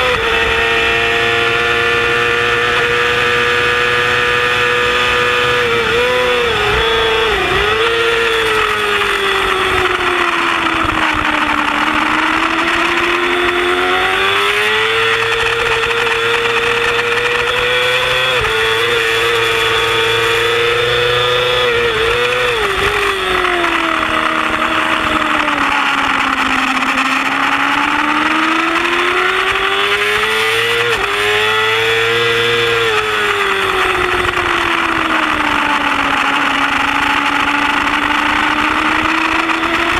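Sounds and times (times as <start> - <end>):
gear changes blipping engine: 0.0 - 39.9
racing motorcycle engine revving: 0.0 - 39.9
rush of wind: 0.0 - 39.9.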